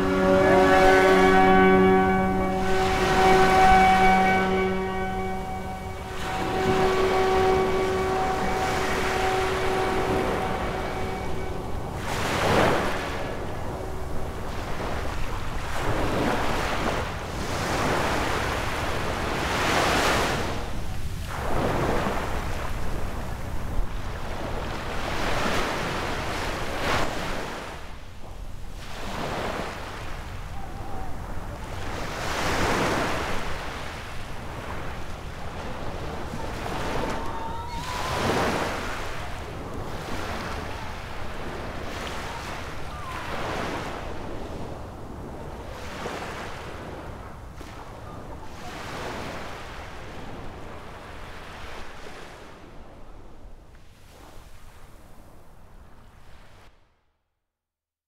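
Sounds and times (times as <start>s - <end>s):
small waves washing onto beach: 0.0s - 56.7s.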